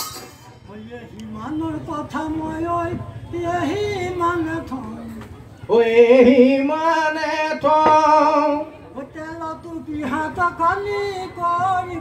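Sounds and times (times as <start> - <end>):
men singing a chanted folk song: 0.7 - 12.0.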